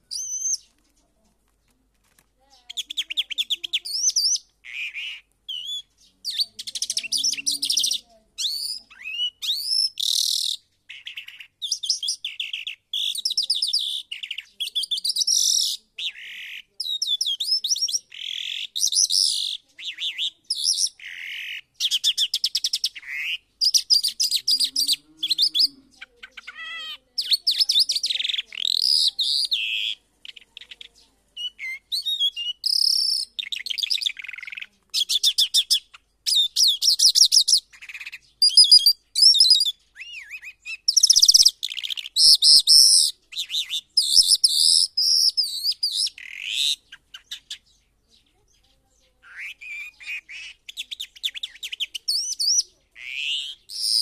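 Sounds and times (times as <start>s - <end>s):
lark singing: 0.0s - 0.8s, 2.5s - 54.0s.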